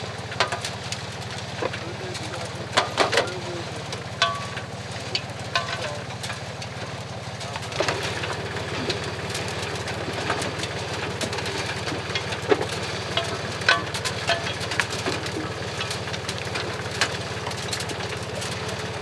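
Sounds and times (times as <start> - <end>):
potatoes tumbling and rattling: 0.0 - 19.0
small engine droning: 0.0 - 19.0.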